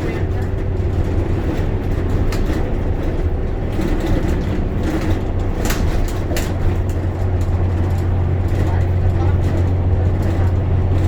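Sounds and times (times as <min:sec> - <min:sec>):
bus body rattling: 0:00.0 - 0:11.0
bus engine drone: 0:00.0 - 0:11.0
road noise: 0:00.0 - 0:11.0.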